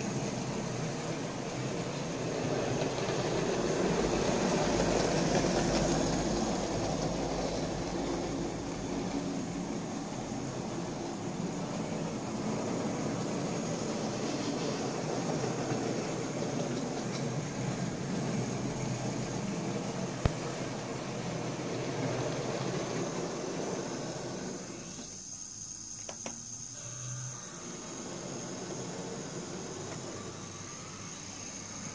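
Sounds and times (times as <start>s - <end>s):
model train motor whirring: 0.0s - 31.9s.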